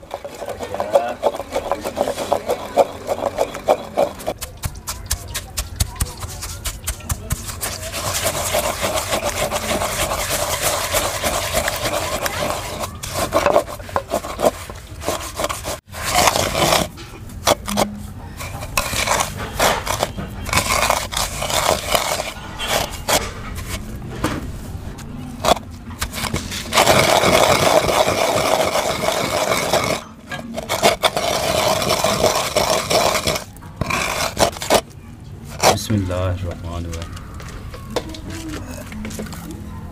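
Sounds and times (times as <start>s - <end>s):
wooden pestle grinding in clay bowl: 0.0s - 39.6s.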